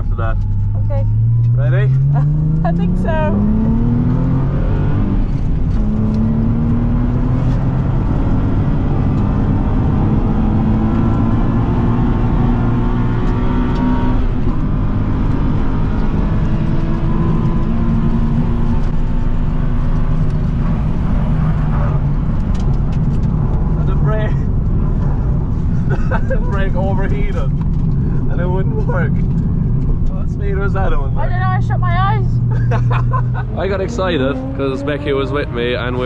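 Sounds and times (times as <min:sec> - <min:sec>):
car engine at high revs: 0:00.0 - 0:36.0.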